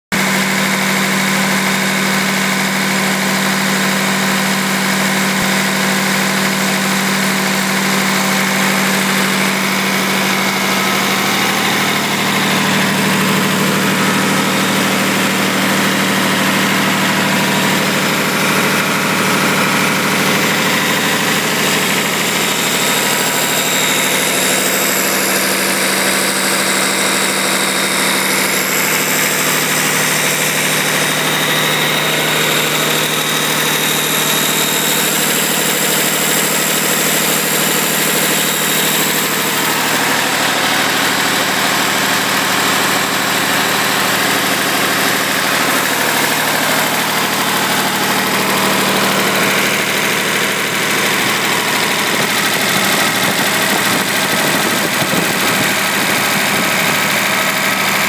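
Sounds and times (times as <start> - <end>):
diesel engine running steadily: 0.1 - 58.0.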